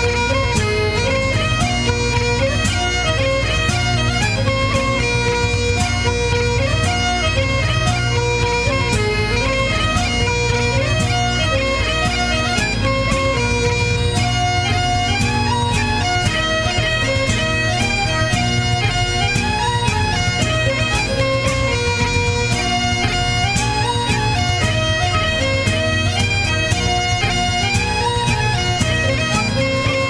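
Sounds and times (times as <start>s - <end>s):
bagpipes playing a melody: 0.0s - 30.0s.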